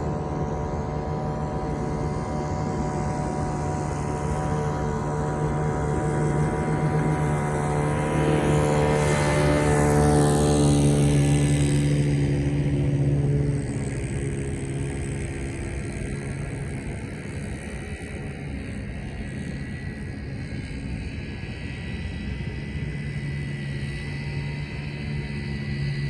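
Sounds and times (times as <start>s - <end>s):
model boat engine running: 0.0s - 26.0s.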